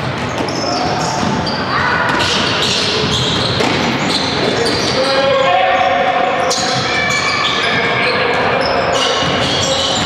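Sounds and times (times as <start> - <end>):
sneakers squeaking: 0.0 - 10.0.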